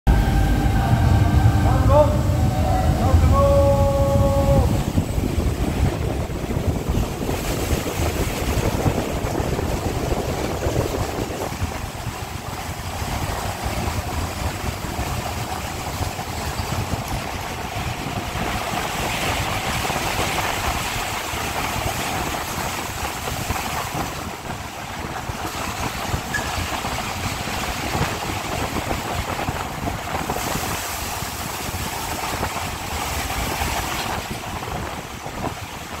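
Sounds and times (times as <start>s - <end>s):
roller coaster rumbling on track: 0.0s - 36.0s
wind noise on microphone: 0.1s - 36.0s.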